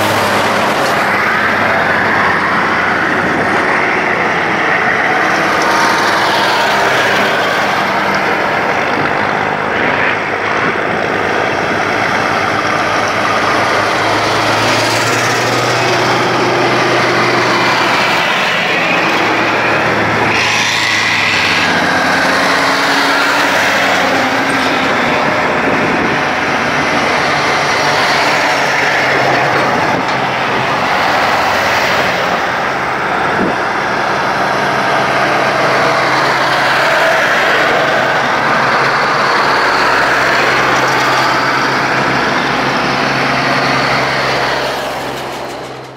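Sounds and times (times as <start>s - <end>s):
truck engine drone: 0.0s - 45.9s
tyre and road noise: 0.0s - 45.9s.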